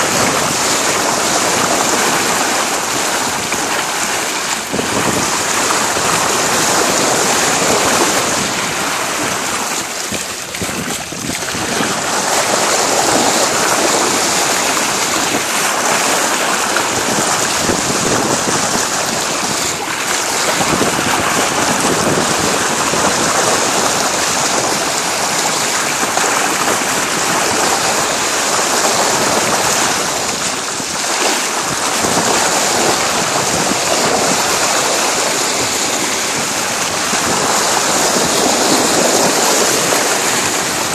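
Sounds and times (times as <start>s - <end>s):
bow wave rushing along hull: 0.0s - 40.9s
wind on microphone: 0.0s - 40.9s.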